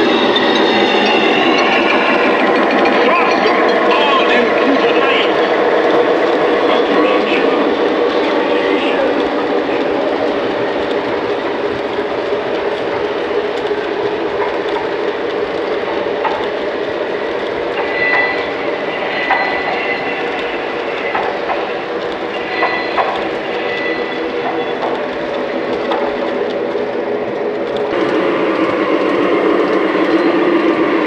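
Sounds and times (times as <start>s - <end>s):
clicks over rail joints: 0.0s - 31.0s
model train rumbling on track: 0.0s - 31.0s.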